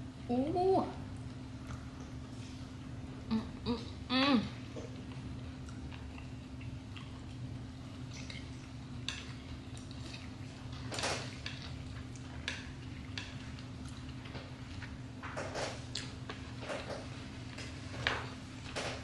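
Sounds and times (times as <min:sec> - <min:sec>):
steady low hum: 0:00.0 - 0:19.0
close chewing and mouth noises: 0:01.1 - 0:03.0, 0:04.6 - 0:19.0.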